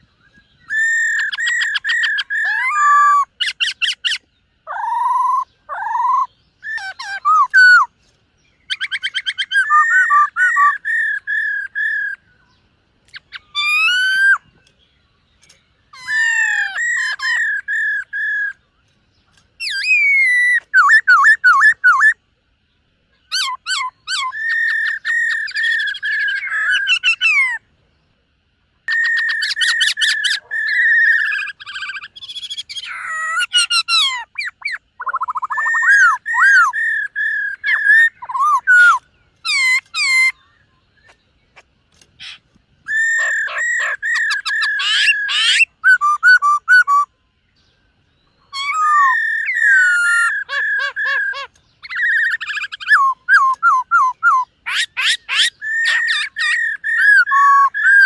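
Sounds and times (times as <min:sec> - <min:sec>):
bird singing whistled phrases: 0:00.0 - 0:07.9, 0:08.6 - 0:14.7, 0:15.4 - 0:18.6, 0:19.6 - 0:22.2, 0:28.9 - 0:41.2, 0:42.2 - 0:47.1, 0:48.2 - 0:58.0.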